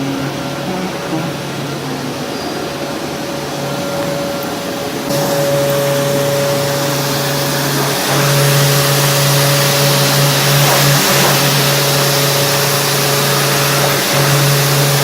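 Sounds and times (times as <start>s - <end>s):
drying machine humming: 0.0s - 15.0s.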